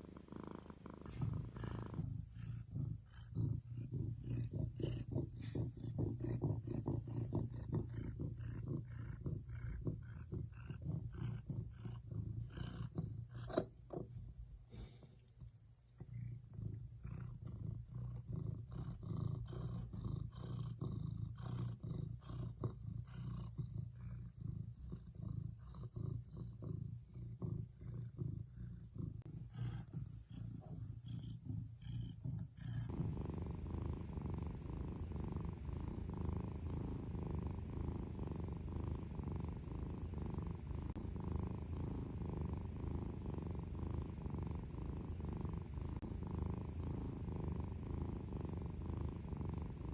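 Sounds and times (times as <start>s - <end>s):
cat purring: 0.0s - 49.9s.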